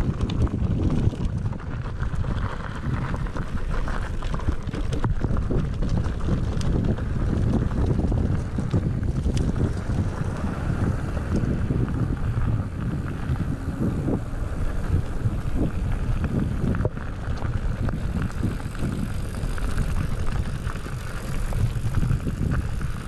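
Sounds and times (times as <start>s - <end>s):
bike knocks and rattles: 0.0s - 23.0s
wind buffeting microphone: 0.0s - 23.0s.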